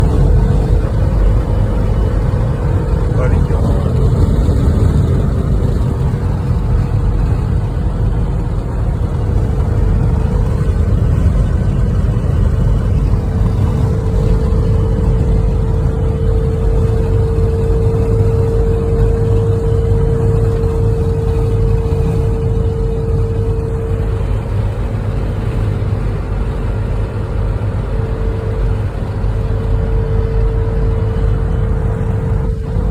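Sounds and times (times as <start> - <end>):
constant whine: 0.0 - 32.9
van engine and road rumble: 0.0 - 32.9.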